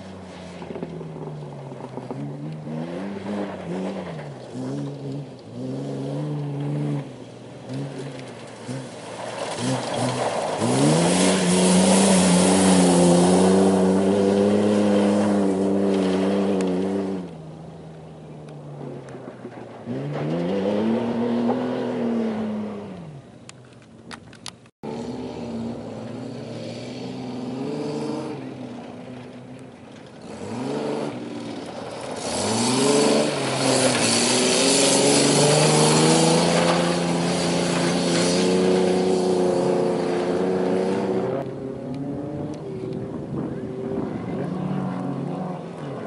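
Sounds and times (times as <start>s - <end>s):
spinning tyres spraying dirt: 0.0s - 23.6s, 24.9s - 46.0s
truck engines revving: 0.0s - 46.0s.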